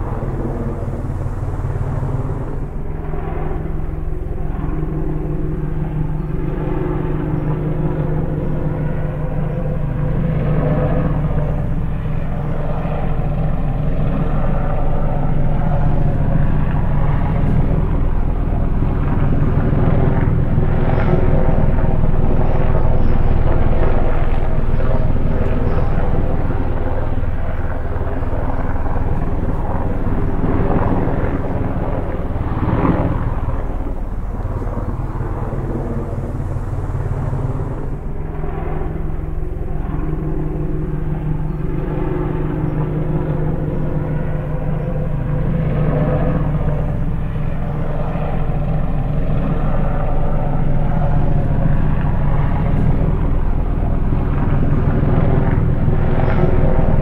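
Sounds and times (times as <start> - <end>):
drone propellers humming: 0.0 - 57.0.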